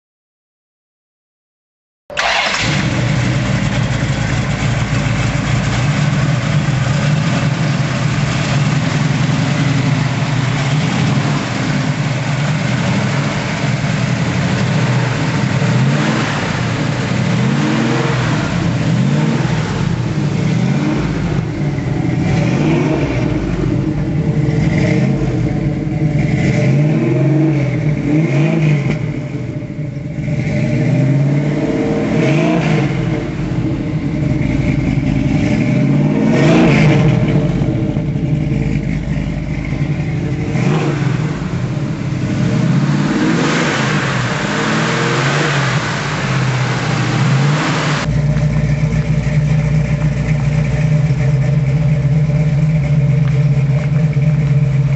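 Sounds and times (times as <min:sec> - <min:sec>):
car engine revving: 0:02.2 - 0:54.9.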